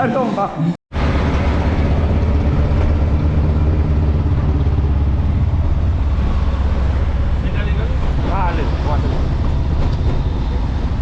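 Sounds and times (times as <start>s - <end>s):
vehicle engine droning: 0.1s - 11.0s.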